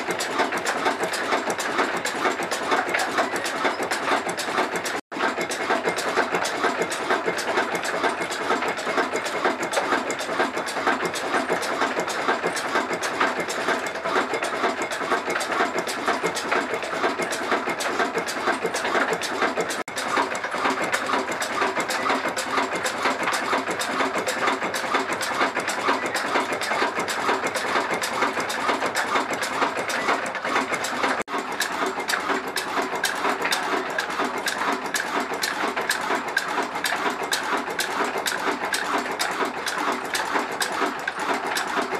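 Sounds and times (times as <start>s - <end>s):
diesel engine clattering: 0.0s - 41.9s.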